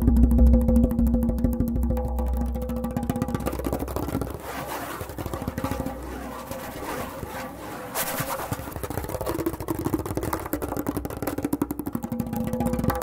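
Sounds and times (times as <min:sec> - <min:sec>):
goblet drum fast finger strokes: 0:00.8 - 0:13.0.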